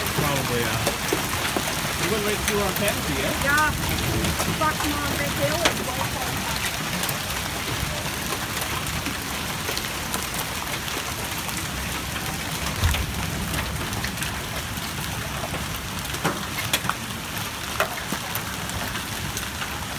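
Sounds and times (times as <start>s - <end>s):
hail and rain pelting: 0.0s - 19.9s
hailstones cracking on hard surfaces: 0.0s - 19.9s.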